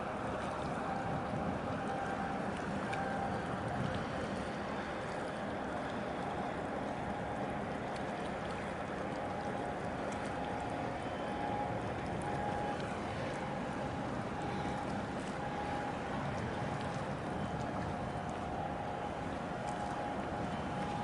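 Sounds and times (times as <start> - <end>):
choppy water washing: 0.0 - 21.0
ship machinery humming: 0.0 - 21.0.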